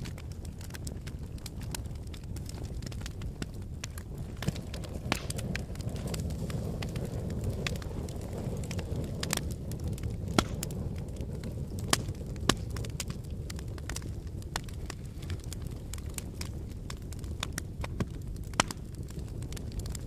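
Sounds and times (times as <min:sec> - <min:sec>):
fire crackling and popping: 0:00.0 - 0:20.0
fire rumbling: 0:00.0 - 0:20.0.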